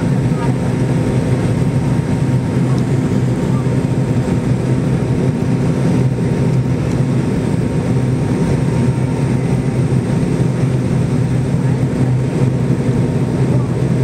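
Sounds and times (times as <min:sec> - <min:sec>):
airliner cabin engine drone: 0:00.0 - 0:14.0.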